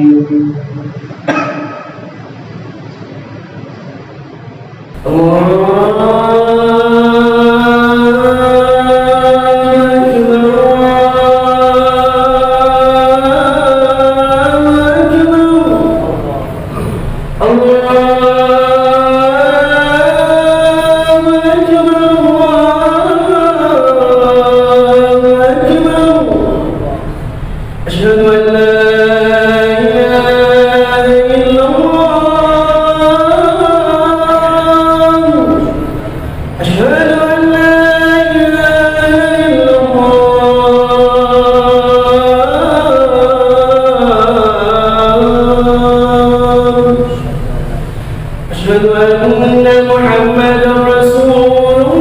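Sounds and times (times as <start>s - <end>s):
man chanting melismatic note: 0.0s - 3.5s, 4.1s - 52.0s.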